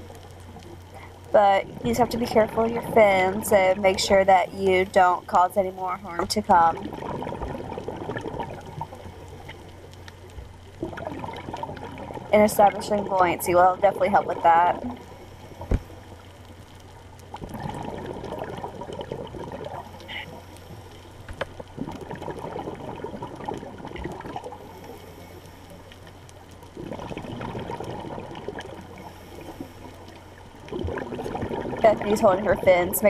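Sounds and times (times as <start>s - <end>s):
diver's bubbles gurgling underwater: 0.0s - 25.1s, 25.9s - 33.0s
steady low hum: 0.0s - 33.0s.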